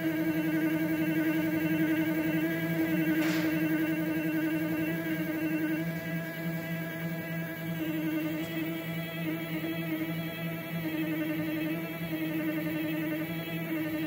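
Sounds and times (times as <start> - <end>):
stepper motor whine: 0.0 - 14.0.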